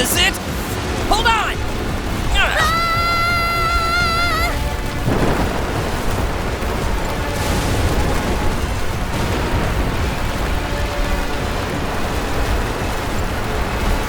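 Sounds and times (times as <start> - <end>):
low storm rumble: 0.0 - 14.0
music: 0.0 - 14.0.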